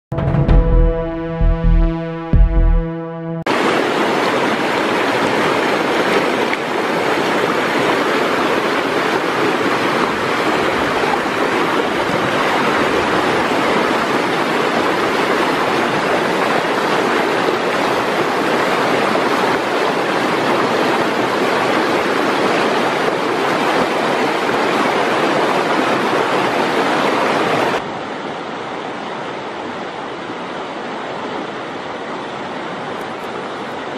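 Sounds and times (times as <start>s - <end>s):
river rushing over rocks: 3.5s - 33.9s.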